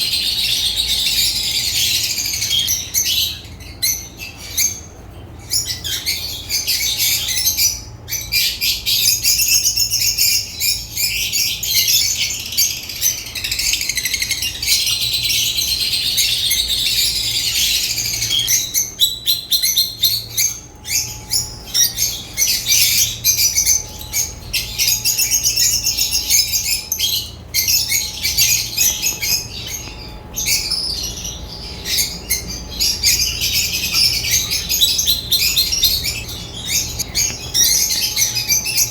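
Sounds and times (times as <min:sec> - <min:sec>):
faint steady hum: 0:00.0 - 0:38.9
lovebirds chirping and chattering: 0:00.0 - 0:38.9.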